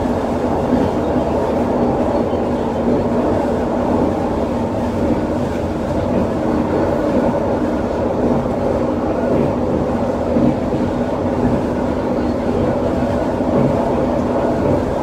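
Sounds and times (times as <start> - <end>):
train running at speed: 0.0 - 15.0.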